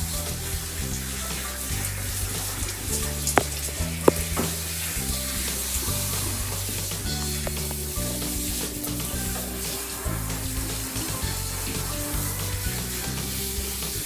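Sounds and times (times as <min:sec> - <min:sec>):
background music with bass line: 0:00.0 - 0:14.0
shower spray hissing: 0:00.0 - 0:14.0.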